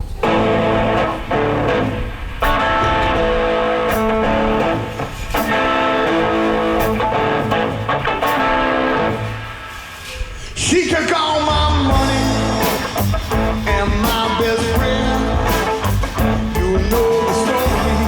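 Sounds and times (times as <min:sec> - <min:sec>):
live band playing: 0:00.5 - 0:09.9, 0:11.9 - 0:18.0.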